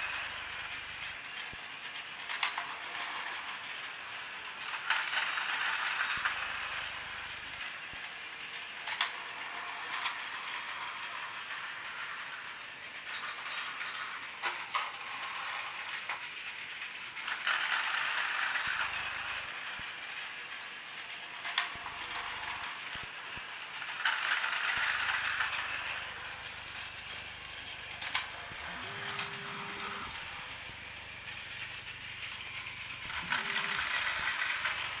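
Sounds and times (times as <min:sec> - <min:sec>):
toy train motor whirring: 0:00.0 - 0:35.0.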